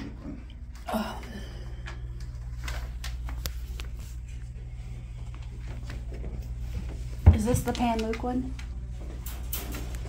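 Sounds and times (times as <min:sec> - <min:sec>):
low room tone hum: 0:00.0 - 0:10.0.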